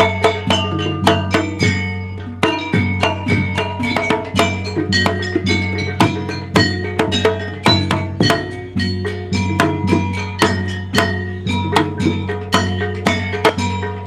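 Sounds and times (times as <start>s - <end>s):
drum strokes: 0.0s - 14.0s
metal-keyed instruments ringing: 0.0s - 14.0s.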